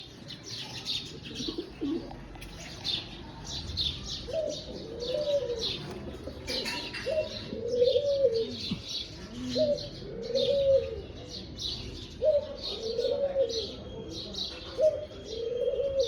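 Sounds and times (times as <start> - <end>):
pigeons cooing: 0.0 - 13.9, 14.6 - 16.0.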